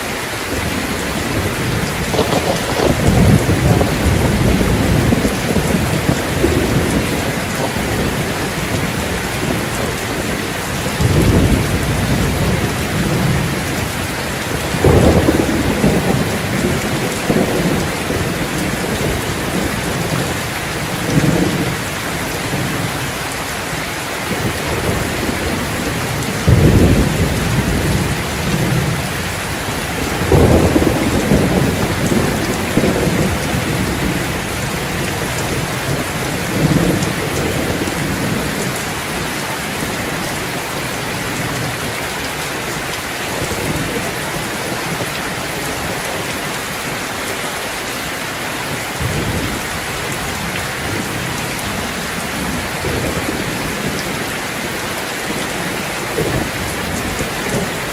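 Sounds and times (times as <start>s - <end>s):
rain falling: 0.0s - 57.9s
thunder rumbles: 0.3s - 46.3s, 48.7s - 57.9s.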